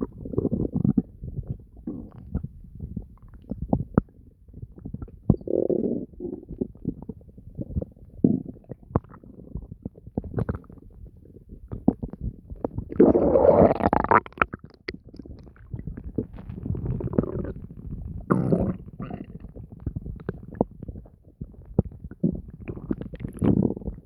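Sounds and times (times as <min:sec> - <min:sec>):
low stomach rumble: 0:00.0 - 0:24.0
stomach gurgles and pops: 0:00.0 - 0:24.0.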